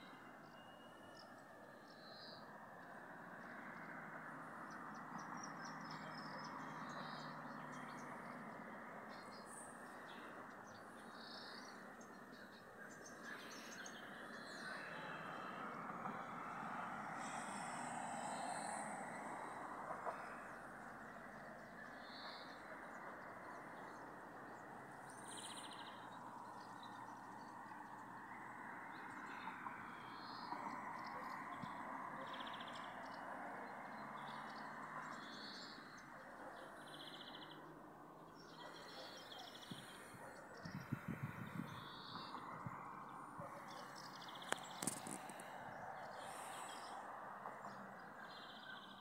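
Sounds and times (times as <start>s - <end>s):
steady outdoor rush: 0.0s - 49.0s.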